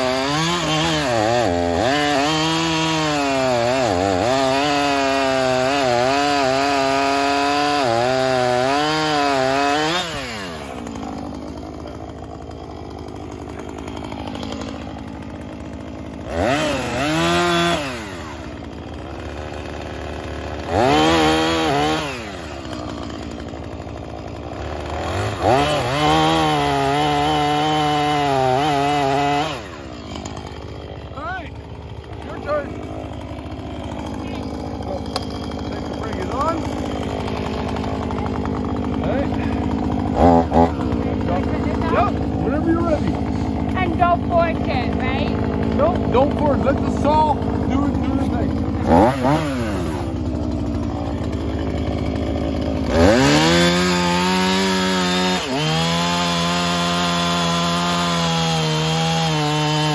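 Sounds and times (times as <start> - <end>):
chainsaw cutting and revving: 0.0 - 59.9.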